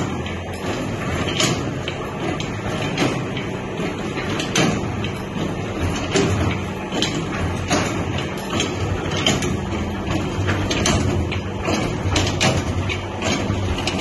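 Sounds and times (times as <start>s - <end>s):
mixing machine motor humming: 0.0s - 14.0s.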